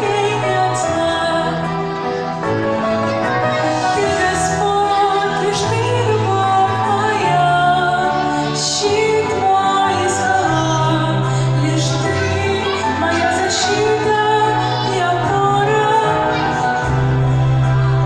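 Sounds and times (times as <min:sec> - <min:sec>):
woman singing: 0:00.0 - 0:01.8, 0:04.0 - 0:16.6.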